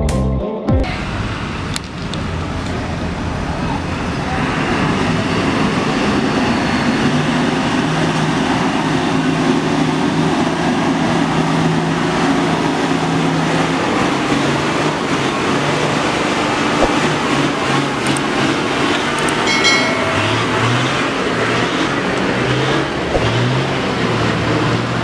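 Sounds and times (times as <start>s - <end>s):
truck diesel engine under load: 0.9s - 25.0s.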